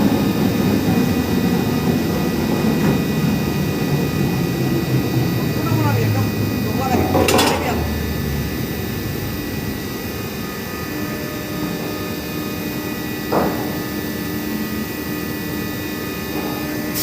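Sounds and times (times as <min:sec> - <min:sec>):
constant machine tones: 0:00.0 - 0:17.0
drilling rig machinery drone: 0:00.0 - 0:17.0.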